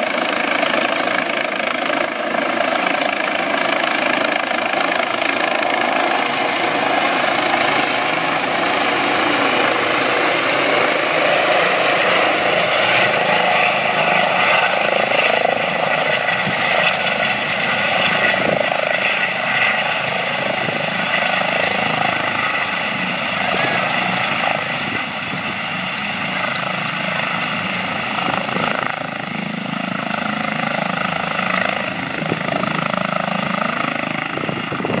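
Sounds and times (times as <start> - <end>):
helicopter rotor and engine: 0.0 - 35.0.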